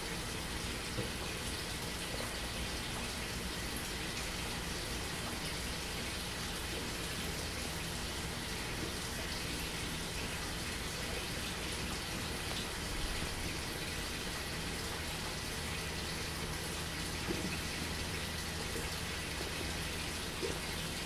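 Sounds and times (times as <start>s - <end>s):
fogger watery hiss and trickle: 0.0s - 21.0s.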